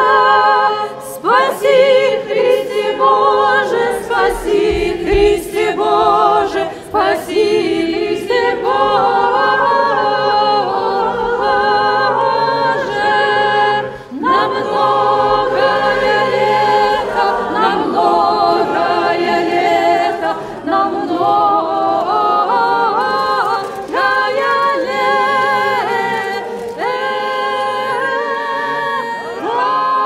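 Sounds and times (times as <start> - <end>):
church choir singing a cappella: 0.0 - 30.0.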